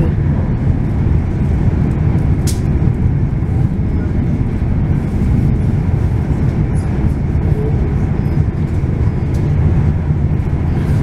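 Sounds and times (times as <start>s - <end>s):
train rumbling along track: 0.0s - 11.0s.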